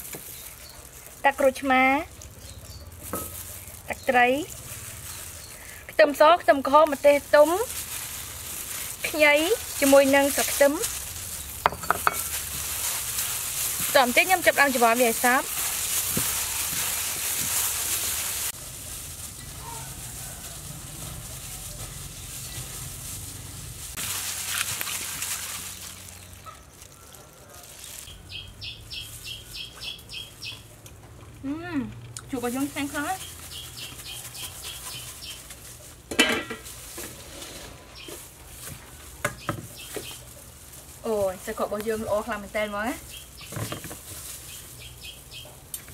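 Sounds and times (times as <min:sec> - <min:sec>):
gloved hands mixing salad: 0:00.0 - 0:30.5, 0:32.2 - 0:45.9.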